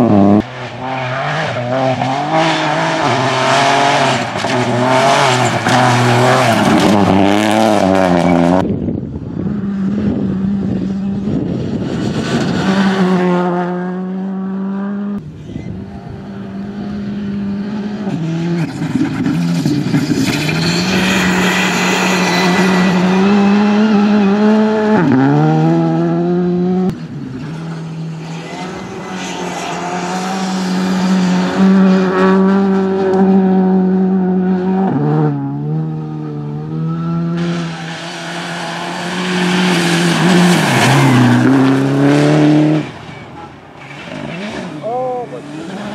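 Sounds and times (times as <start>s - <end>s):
rally cars revving hard: 0.0s - 45.9s.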